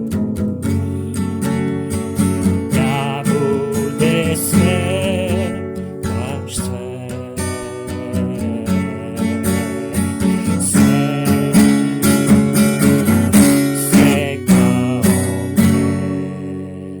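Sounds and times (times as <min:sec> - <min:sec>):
strummed guitar music: 0:00.0 - 0:17.0.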